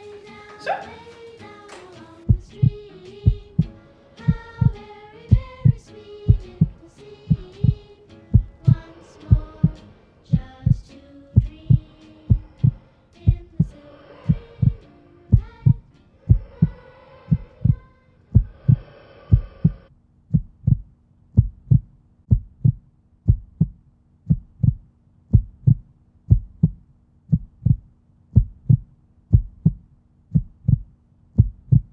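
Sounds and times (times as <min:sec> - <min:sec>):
faint low hum: 0:00.0 - 0:31.9
heartbeat double thump: 0:02.3 - 0:31.9.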